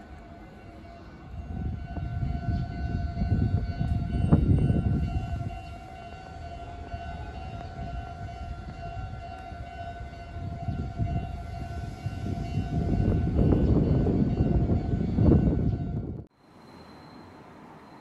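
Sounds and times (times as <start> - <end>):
level crossing warning bell: 0.0 - 18.0
train rumbling: 0.0 - 18.0.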